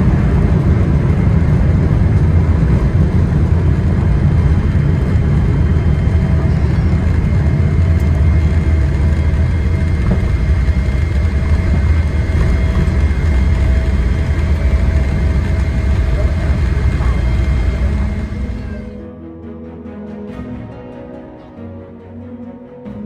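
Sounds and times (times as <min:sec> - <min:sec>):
faint steady whines: 0:00.0 - 0:19.0
aircraft engines rumbling: 0:00.0 - 0:19.1.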